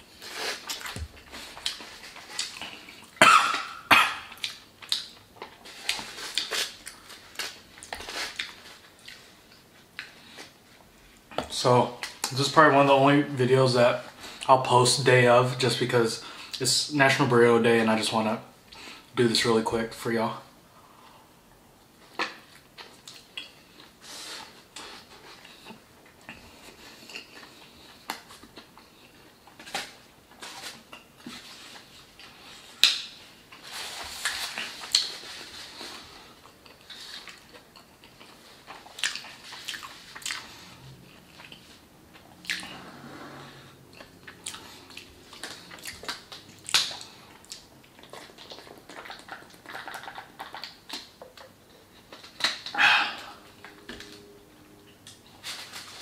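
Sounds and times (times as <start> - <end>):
person chewing food: 0.0 - 11.4, 22.0 - 56.0.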